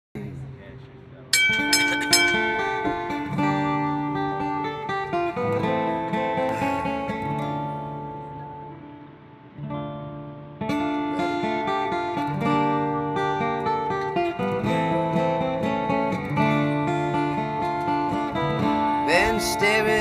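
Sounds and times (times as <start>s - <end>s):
acoustic guitar strumming: 0.2s - 20.0s.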